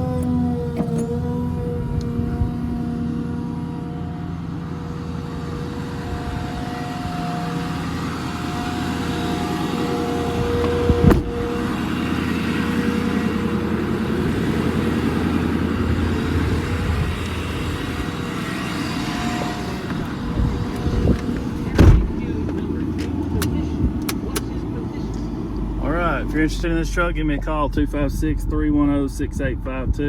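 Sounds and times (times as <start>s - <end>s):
diesel truck engine running: 0.0s - 30.0s
whining tones: 0.0s - 30.0s.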